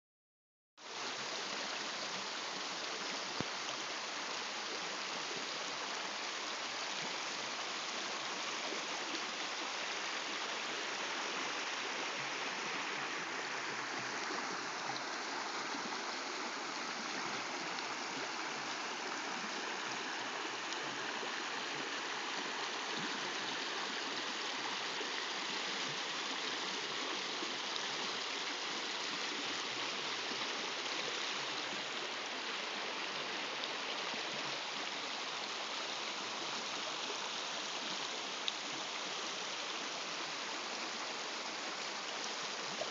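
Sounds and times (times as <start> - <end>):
creek rushing over rocks: 0.8 - 42.9.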